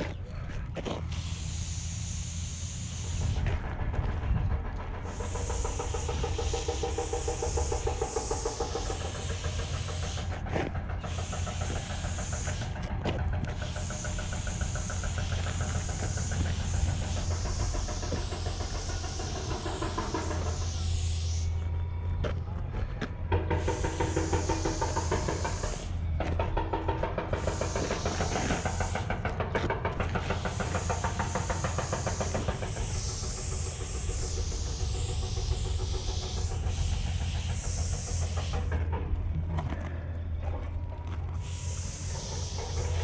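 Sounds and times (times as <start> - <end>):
spray paint hissing: 1.0 - 21.8, 23.3 - 38.9, 41.4 - 43.0.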